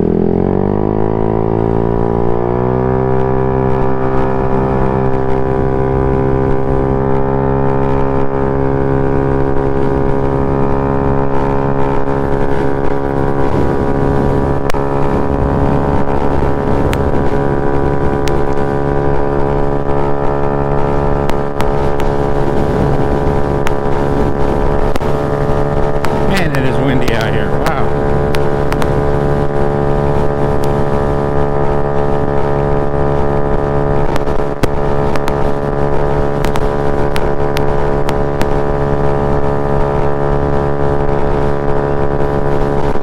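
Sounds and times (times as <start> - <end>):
scooter engine running: 0.0 - 43.0.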